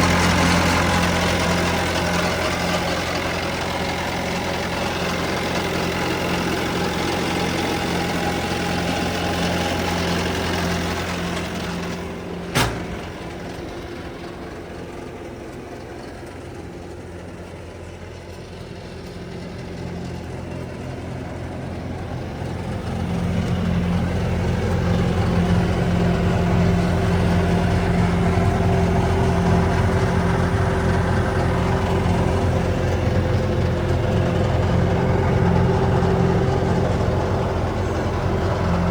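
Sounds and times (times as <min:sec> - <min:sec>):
diesel loader engine running: 0:00.0 - 0:38.9.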